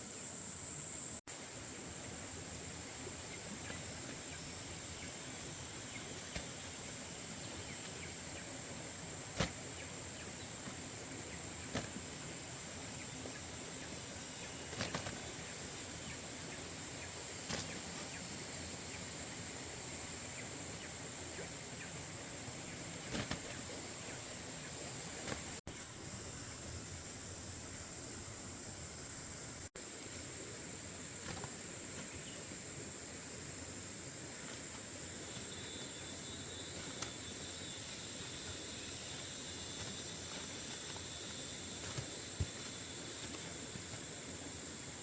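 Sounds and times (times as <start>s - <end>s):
high-pitched hiss: 0.0s - 45.0s.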